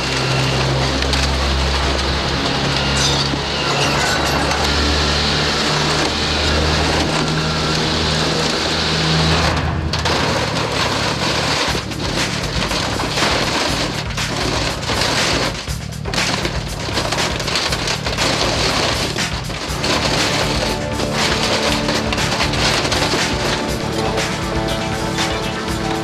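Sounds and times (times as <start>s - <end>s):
excavator diesel engine: 0.0s - 26.0s
metal cracks and clatter: 0.0s - 26.0s
metal crunching and tearing: 0.0s - 26.0s.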